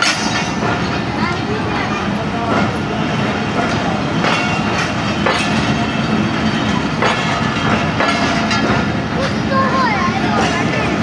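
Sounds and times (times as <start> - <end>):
train wheels rumbling on rail: 0.0 - 11.0
wheels clacking over rail joints: 0.0 - 11.0.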